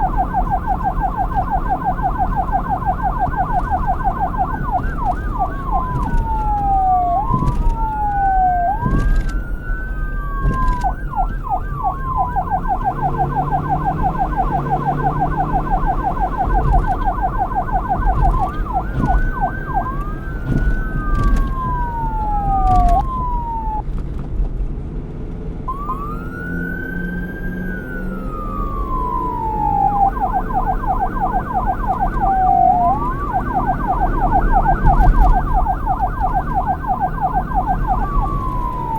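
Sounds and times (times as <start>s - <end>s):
police siren wailing and yelping: 0.0s - 23.9s, 25.7s - 38.9s.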